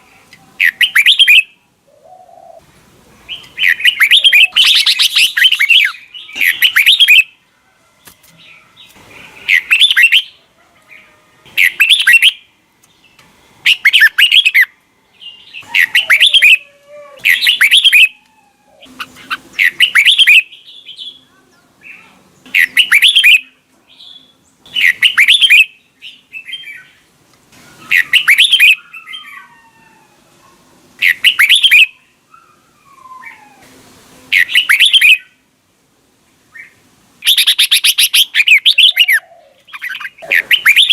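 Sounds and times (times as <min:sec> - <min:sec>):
bulbul warbled song: 0:00.0 - 0:02.6, 0:03.2 - 0:07.4, 0:08.8 - 0:18.2, 0:18.8 - 0:27.1, 0:27.8 - 0:29.4, 0:31.0 - 0:32.2, 0:34.3 - 0:35.4, 0:36.5 - 0:40.9.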